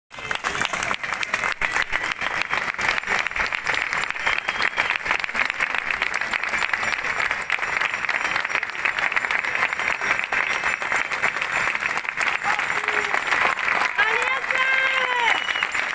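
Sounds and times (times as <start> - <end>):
crowd clapping: 0.1 - 15.9.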